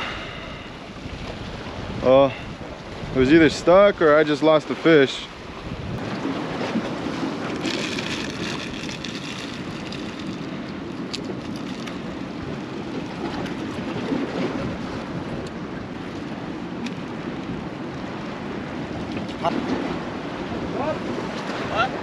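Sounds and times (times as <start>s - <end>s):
surf: 0.0s - 22.0s
wind: 0.0s - 22.0s.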